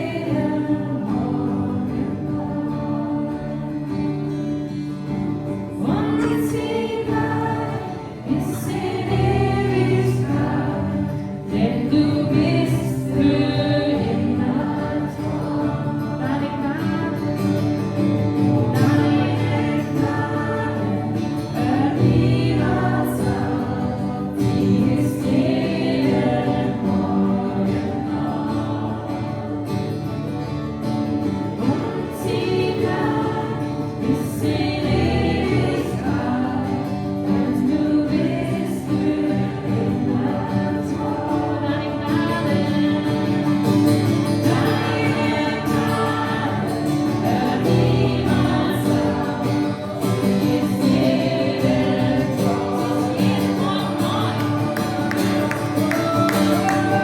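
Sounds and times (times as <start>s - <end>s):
group singing: 0.0s - 57.0s
guitar accompaniment: 0.0s - 57.0s.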